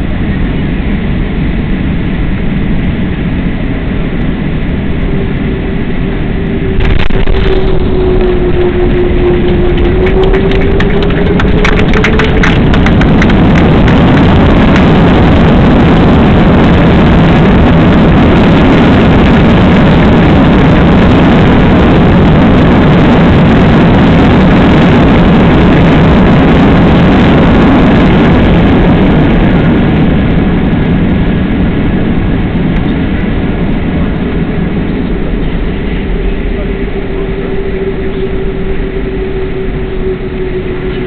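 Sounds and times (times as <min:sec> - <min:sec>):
jet engines roaring: 0:00.0 - 0:41.0
rushing air in aircraft cabin: 0:00.0 - 0:41.0.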